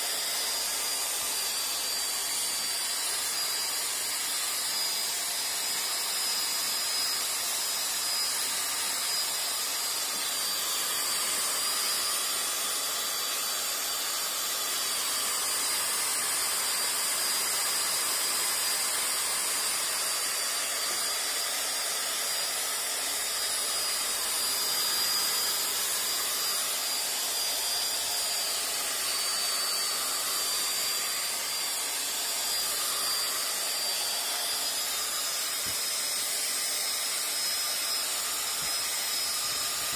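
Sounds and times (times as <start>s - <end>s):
power tool whining: 0.0s - 39.9s.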